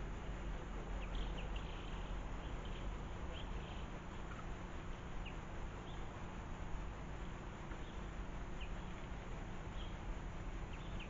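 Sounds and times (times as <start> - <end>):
outdoor hiss and low rumble: 0.0 - 11.0
small birds chirping: 0.0 - 11.0.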